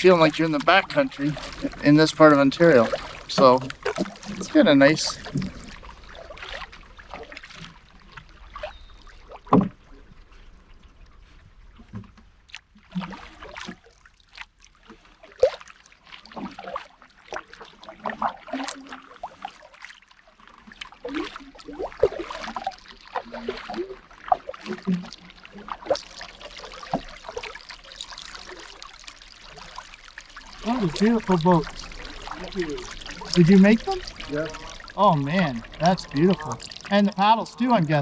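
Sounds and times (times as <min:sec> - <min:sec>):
paddle splashing in water: 0:00.0 - 0:38.0
water dripping off paddle: 0:00.0 - 0:38.0.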